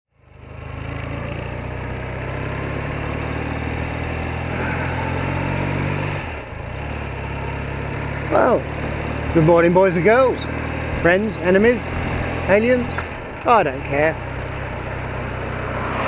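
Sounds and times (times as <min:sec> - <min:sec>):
motorcycle engine running: 0:00.1 - 0:16.0.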